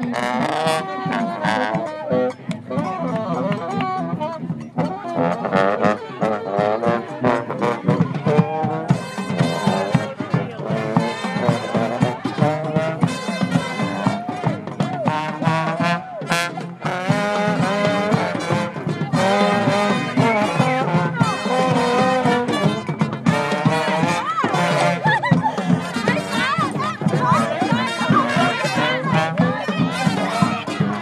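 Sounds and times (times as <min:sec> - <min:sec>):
brass band playing: 0:00.0 - 0:31.0.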